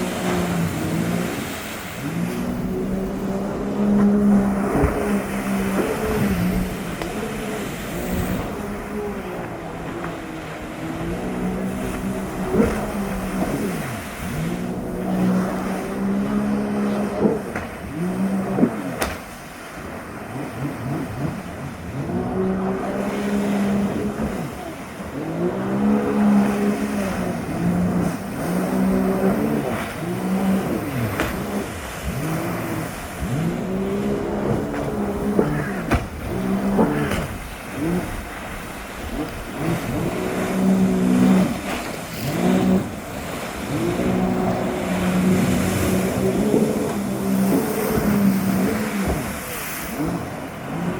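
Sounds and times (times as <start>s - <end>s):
jet ski engine revving: 0.0s - 50.9s.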